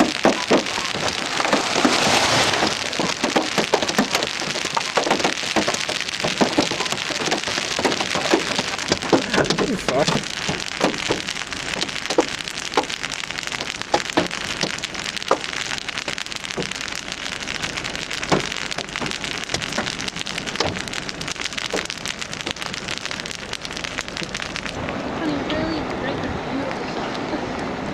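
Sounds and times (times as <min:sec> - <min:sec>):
hailstones knocking on car: 0:00.0 - 0:24.8
steady hiss of rain: 0:00.0 - 0:27.9.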